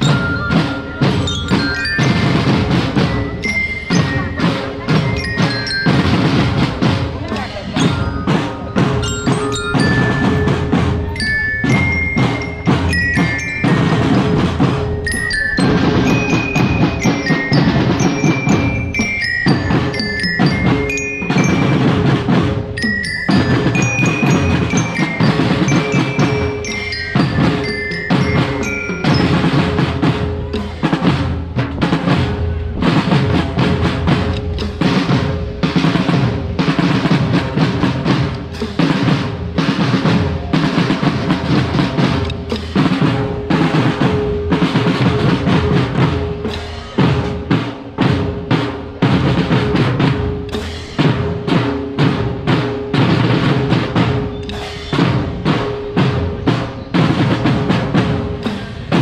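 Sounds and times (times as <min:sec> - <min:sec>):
glockenspiel melody: 0:00.0 - 0:59.0
snare drums: 0:00.0 - 0:59.0.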